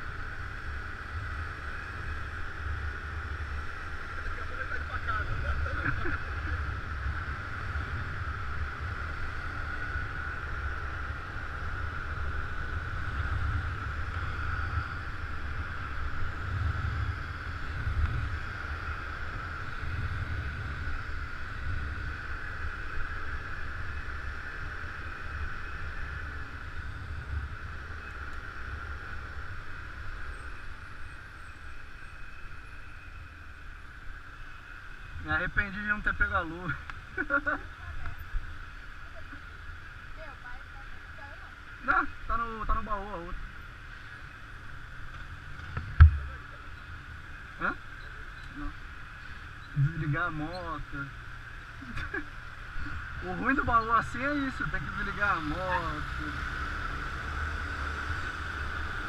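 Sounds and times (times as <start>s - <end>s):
scooter engine and road hum: 0.0s - 59.0s.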